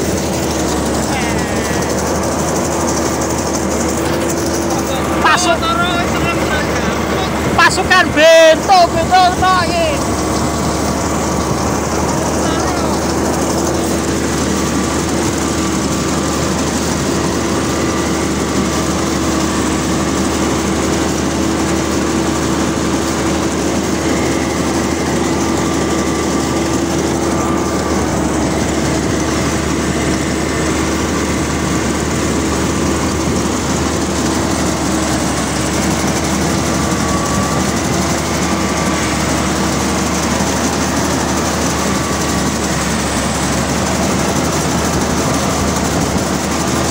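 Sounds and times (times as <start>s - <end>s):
combine harvester engine drone: 0.0s - 46.9s
constant machinery whine: 0.0s - 46.9s.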